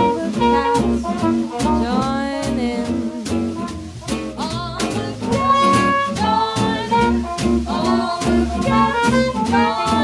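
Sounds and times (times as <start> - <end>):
swing jazz band playing: 0.0 - 10.0.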